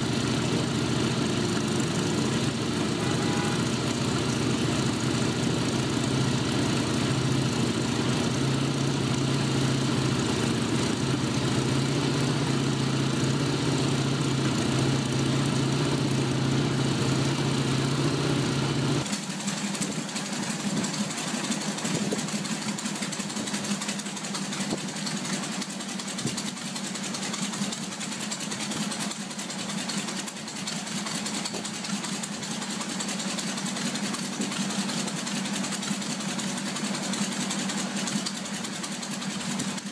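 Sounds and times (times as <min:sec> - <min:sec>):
higher-pitched engine running: 0:00.0 - 0:39.9
radial aircraft engine idling: 0:00.0 - 0:39.9.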